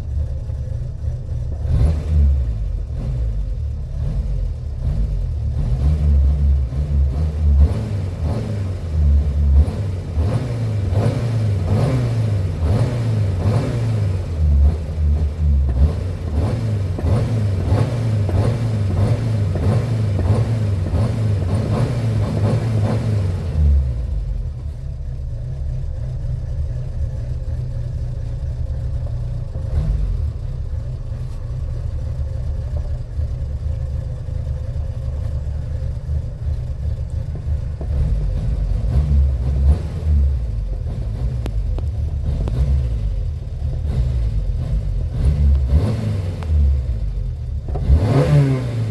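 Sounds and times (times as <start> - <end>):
car engine revving and idling: 0.0 - 48.9.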